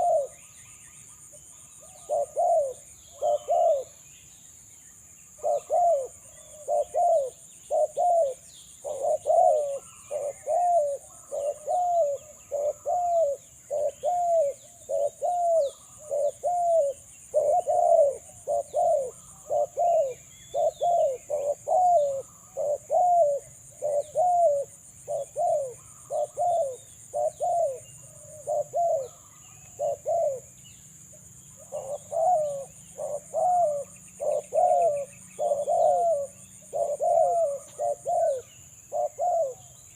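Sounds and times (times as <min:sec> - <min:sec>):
dove cooing: 0:00.0 - 0:00.5, 0:01.8 - 0:04.0, 0:05.3 - 0:30.6, 0:31.5 - 0:39.9
small birds chirping: 0:00.0 - 0:39.9.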